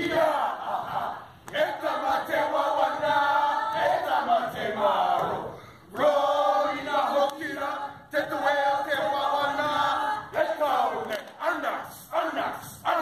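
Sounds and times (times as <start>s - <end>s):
men chanting and shouting in unison: 0.0s - 13.0s.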